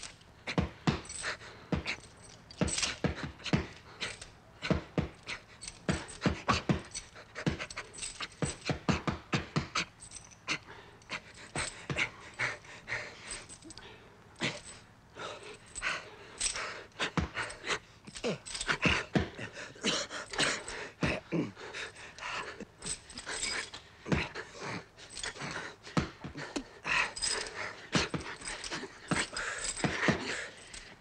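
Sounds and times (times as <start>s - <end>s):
heavy panting breaths: 0.0s - 31.0s.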